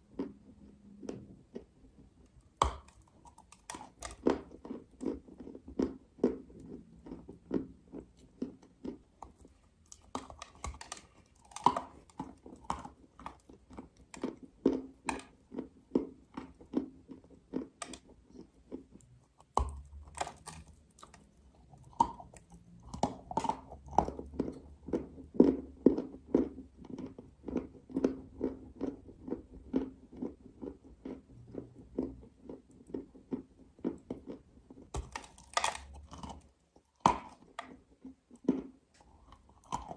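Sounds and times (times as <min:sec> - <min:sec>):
chewing dry clay crunches: 0:00.0 - 0:39.9.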